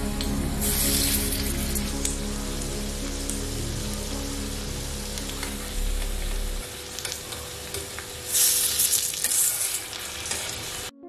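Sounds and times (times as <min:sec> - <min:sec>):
fritters sizzling in hot oil: 0:00.0 - 0:10.9.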